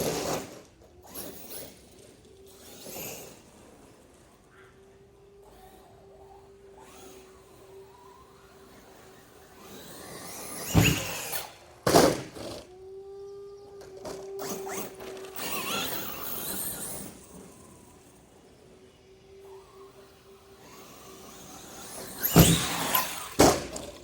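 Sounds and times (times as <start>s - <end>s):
rc truck motor whine: 0.0s - 24.0s
rc truck tumbling: 0.0s - 24.0s.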